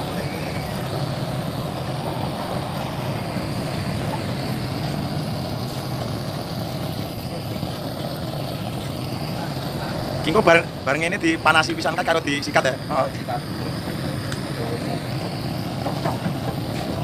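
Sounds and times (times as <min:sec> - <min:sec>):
gas torch flame roaring: 0:00.0 - 0:17.0.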